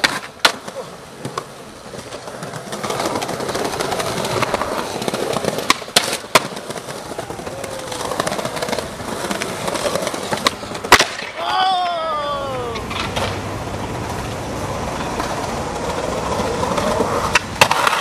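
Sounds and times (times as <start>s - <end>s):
skateboard clacking on ground: 0.0s - 18.0s
skateboard wheels rolling on stone: 0.0s - 18.0s.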